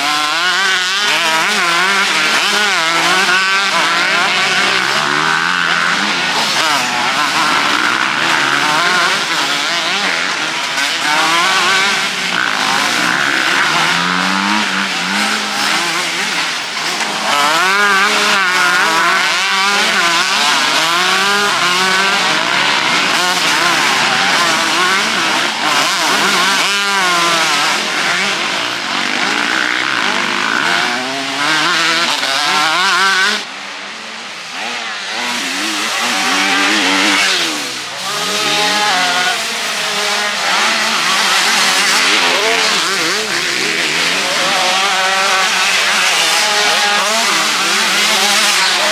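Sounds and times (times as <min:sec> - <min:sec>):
motocross bikes revving: 0:00.0 - 0:48.9.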